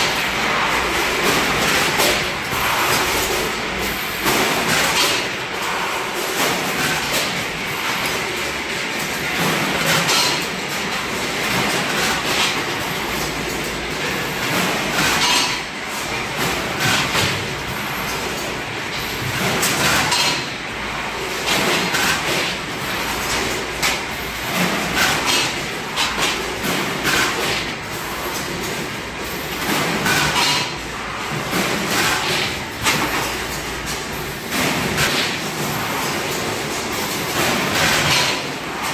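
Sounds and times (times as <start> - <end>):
conveyor clanks and clicks: 0.0 - 38.9.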